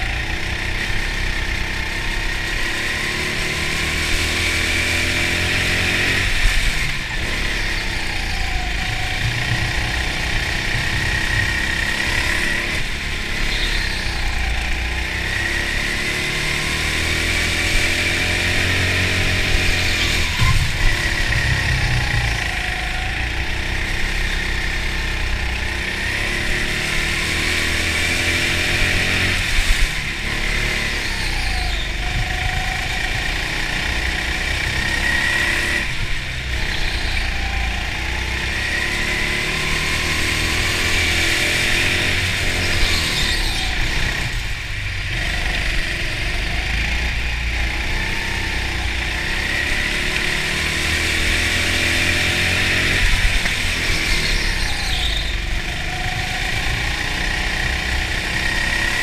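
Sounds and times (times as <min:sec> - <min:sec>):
go-kart motor whining: 0:00.0 - 0:59.0.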